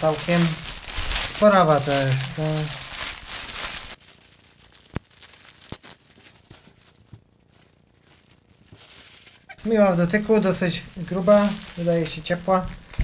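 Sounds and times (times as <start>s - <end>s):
fabric rustling: 0.0s - 13.0s
plastic bag crinkling: 0.0s - 13.0s.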